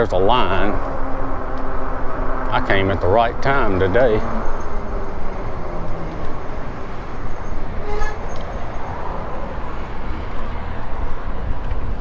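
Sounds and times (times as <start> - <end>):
traffic noise: 0.0 - 12.0
wind rumble: 0.0 - 12.0.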